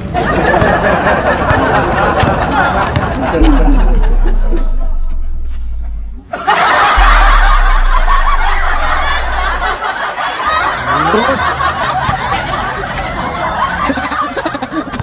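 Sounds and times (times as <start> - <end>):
many people laughing: 0.0 - 5.2, 6.2 - 15.0.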